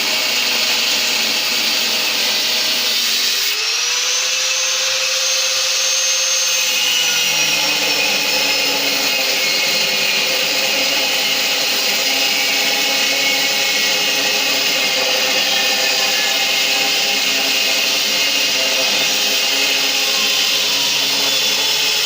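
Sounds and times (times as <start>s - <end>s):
angle grinder grinding steel: 0.0s - 22.0s.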